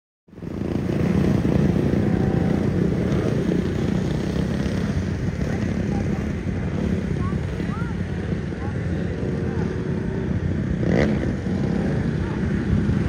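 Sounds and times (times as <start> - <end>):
kart engines running: 0.4 - 13.0.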